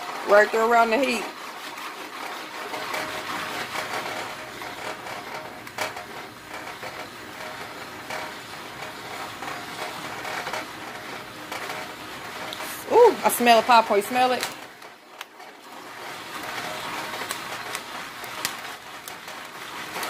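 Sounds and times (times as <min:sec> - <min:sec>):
popcorn pan scraping rattle: 0:00.0 - 0:20.0
popcorn popping: 0:00.0 - 0:20.0.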